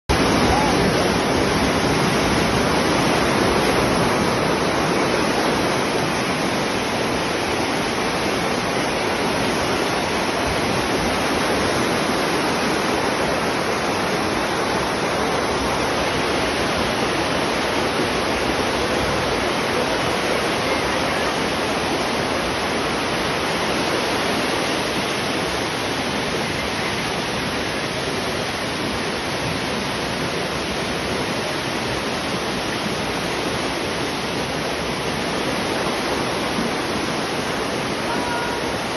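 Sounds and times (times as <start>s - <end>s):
floodwater rushing: 0.1s - 38.9s.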